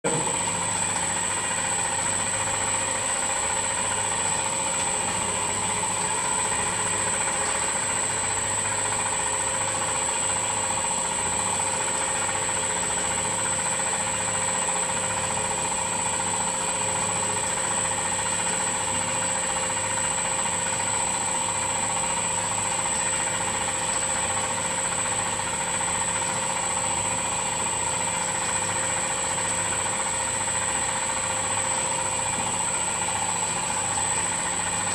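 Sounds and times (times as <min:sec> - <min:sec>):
motor humming with high whine: 0:00.0 - 0:34.9.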